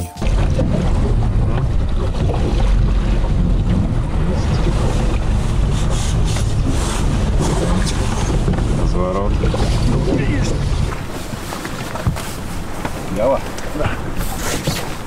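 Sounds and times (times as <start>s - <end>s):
waves splashing against hull: 0.0s - 15.0s
strong wind buffeting microphone: 0.2s - 15.0s.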